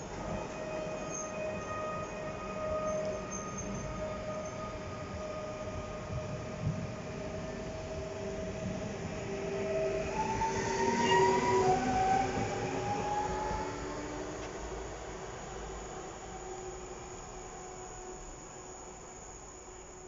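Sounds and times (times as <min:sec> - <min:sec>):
rising electric whine: 0:00.0 - 0:19.6
train wheels rumbling on rail: 0:00.0 - 0:20.0.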